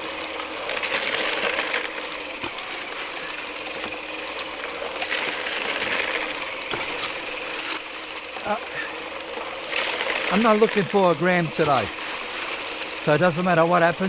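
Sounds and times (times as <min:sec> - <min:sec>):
gravel rattling through sluice: 0:00.0 - 0:14.0
pump humming: 0:00.0 - 0:14.0.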